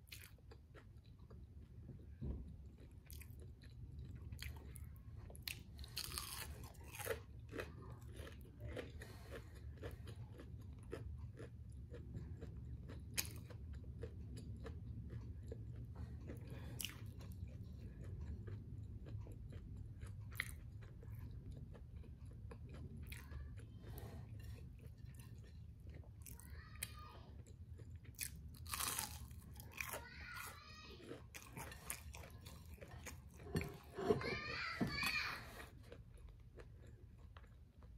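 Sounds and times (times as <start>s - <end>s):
chewing crispy food: 0.0s - 37.9s
low steady hum: 0.0s - 37.9s.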